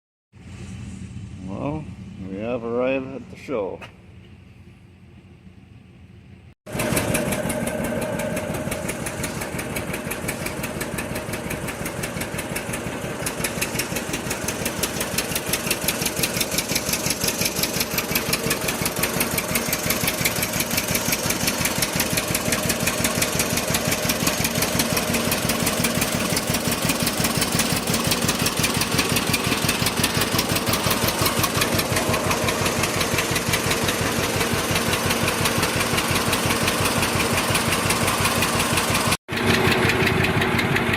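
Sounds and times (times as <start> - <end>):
tractor engine running: 4.0 - 40.9.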